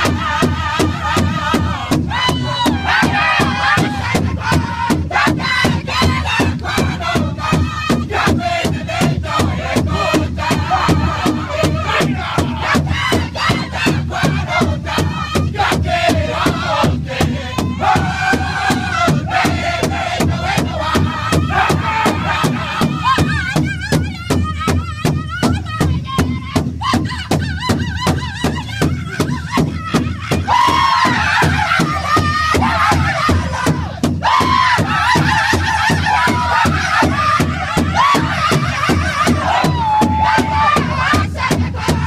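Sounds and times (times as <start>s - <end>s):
group singing in high voices: 0.0s - 42.0s
large hand drum beating: 0.0s - 42.0s.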